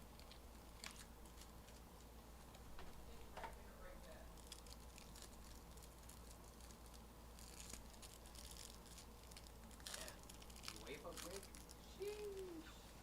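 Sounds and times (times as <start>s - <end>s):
low steady hum: 0.0s - 13.0s
cards and wrappers rustling: 0.1s - 2.1s, 4.2s - 12.6s.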